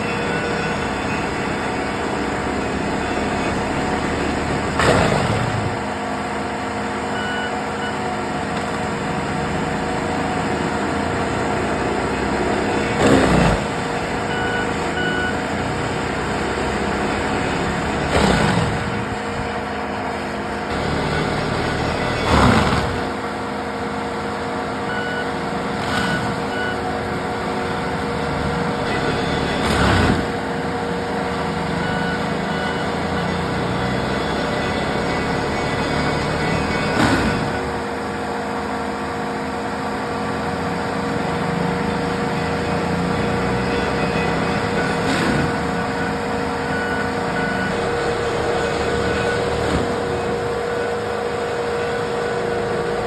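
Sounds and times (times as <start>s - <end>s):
reversing alarm beeps: 0.0s - 19.6s, 20.3s - 38.0s, 41.5s - 53.0s
forestry mulcher grinding stump: 0.0s - 53.0s.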